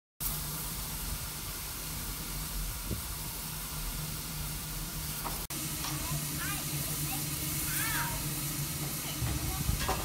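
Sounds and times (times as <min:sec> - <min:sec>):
steam locomotive hissing: 0:00.2 - 0:10.0.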